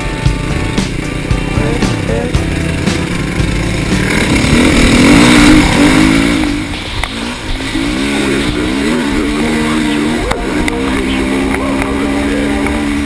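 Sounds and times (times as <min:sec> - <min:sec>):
dirt bike engine accelerating: 0:00.0 - 0:13.0.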